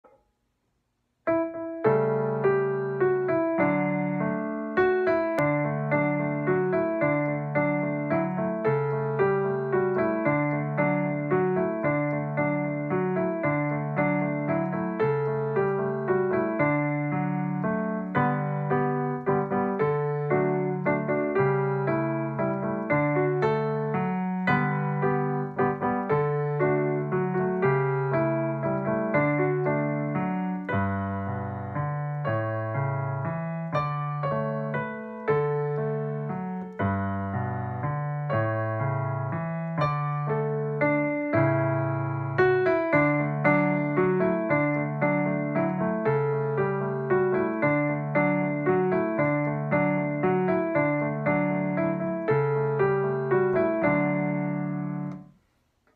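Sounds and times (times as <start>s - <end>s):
simple piano tune: 0.0s - 55.9s.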